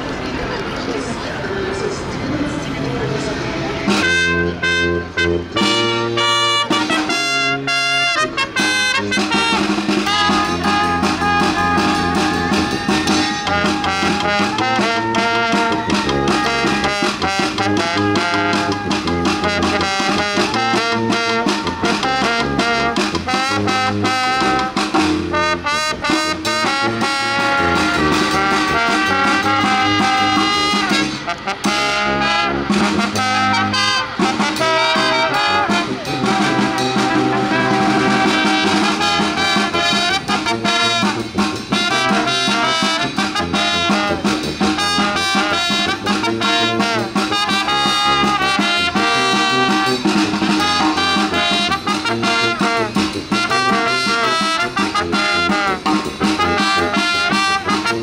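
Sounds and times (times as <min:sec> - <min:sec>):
brass and drum band playing: 0:03.8 - 0:58.0.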